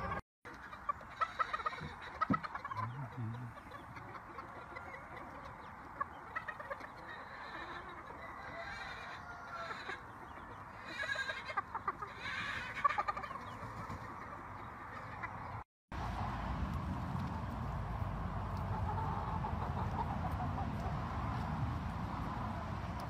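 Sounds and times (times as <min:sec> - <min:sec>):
chickens clucking: 0:00.0 - 0:15.6, 0:17.2 - 0:23.0.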